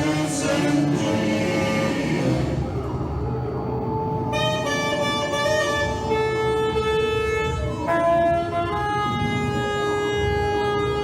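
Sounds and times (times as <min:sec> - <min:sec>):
droning instrumental chord: 0:00.0 - 0:11.0.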